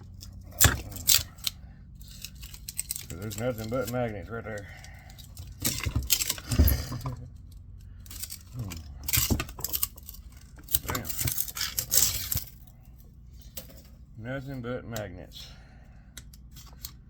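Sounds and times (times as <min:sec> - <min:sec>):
metal tool clinking and scraping: 0:00.0 - 0:14.1.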